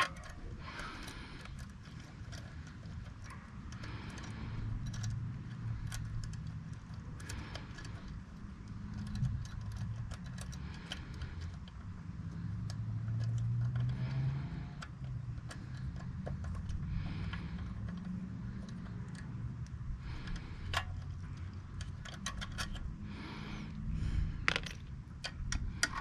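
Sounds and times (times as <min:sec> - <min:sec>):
socket ratchet clicking: 0:00.0 - 0:23.1
steady low hum: 0:00.0 - 0:26.0.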